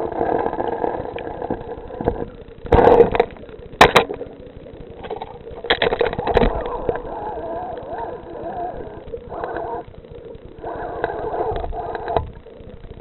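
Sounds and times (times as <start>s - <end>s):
faint steady hum: 0.0s - 13.0s
underwater rumble: 0.0s - 13.0s.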